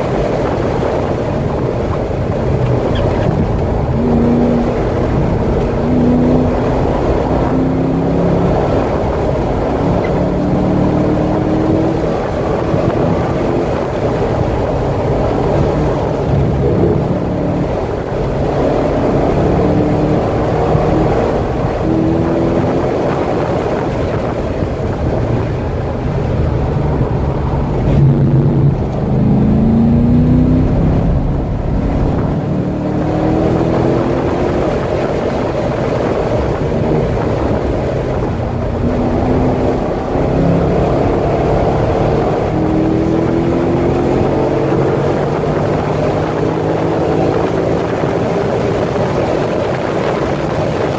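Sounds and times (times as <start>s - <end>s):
car engine revving at full throttle: 0.0s - 50.9s
wind noise: 0.0s - 50.9s.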